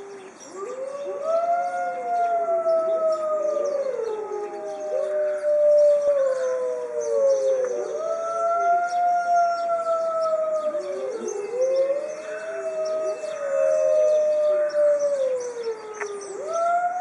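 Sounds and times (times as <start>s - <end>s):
wolves howling in chorus: 0.0s - 17.0s.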